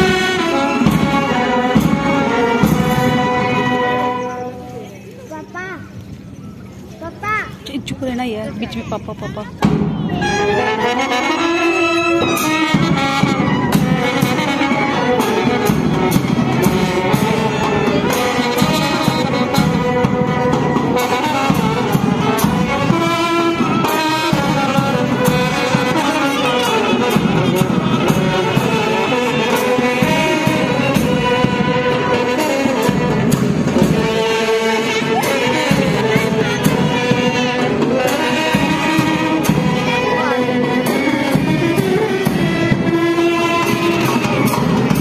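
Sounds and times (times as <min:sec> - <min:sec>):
steady drum beat: 0:00.0 - 0:04.0, 0:12.2 - 0:45.0
brass band playing: 0:00.0 - 0:05.0, 0:09.6 - 0:45.0.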